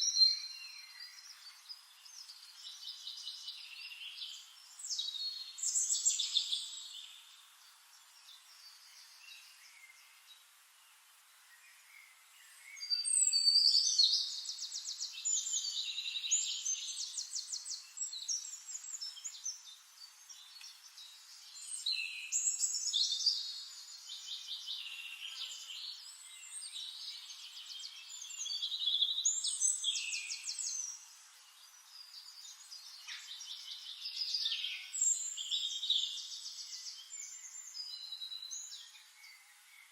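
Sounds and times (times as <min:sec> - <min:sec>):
quiet bird chirping: 0:00.0 - 0:39.9
songbirds singing trills: 0:00.0 - 0:39.9.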